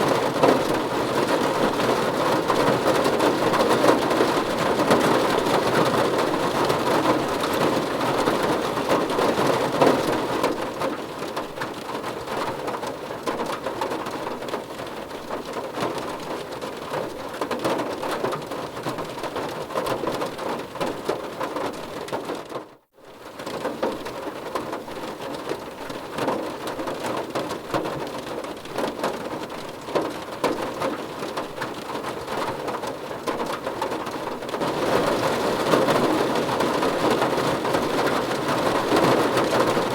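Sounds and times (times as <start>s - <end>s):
heavy rain drumming on car roof: 0.0s - 39.9s.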